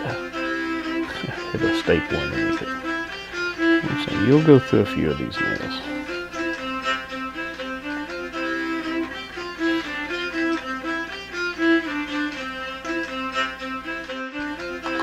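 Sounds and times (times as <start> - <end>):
fiddle melody: 0.0 - 15.0.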